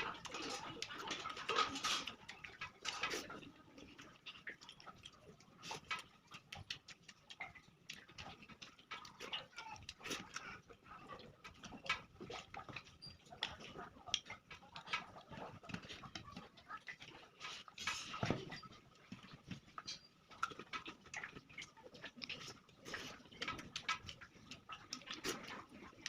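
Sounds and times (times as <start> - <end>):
lip smacks and mouth clicks: 0.0 - 26.0
wet chewing: 0.0 - 26.0.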